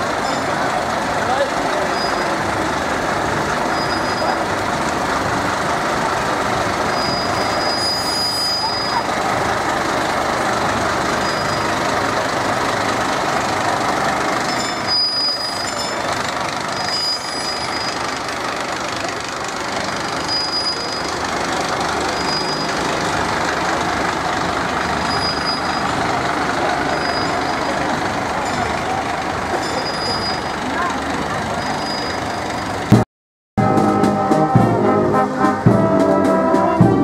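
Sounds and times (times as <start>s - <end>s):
fire engine running: 0.0s - 33.0s, 33.6s - 37.0s.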